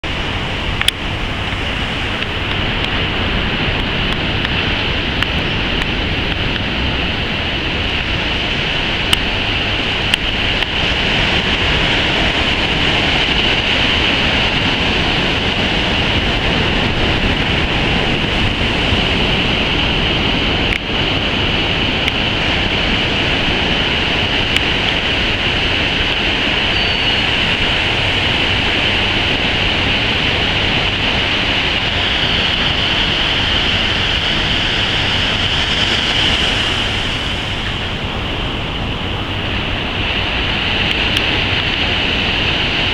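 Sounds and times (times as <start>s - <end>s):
ocean surf: 0.0s - 42.9s
wind buffeting microphone: 0.0s - 42.9s.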